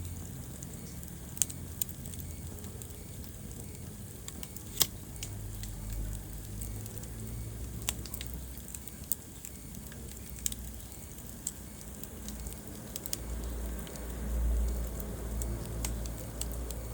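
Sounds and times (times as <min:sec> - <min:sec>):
fire crackling and popping: 0:00.0 - 0:16.9
low fire rumble: 0:00.0 - 0:16.9.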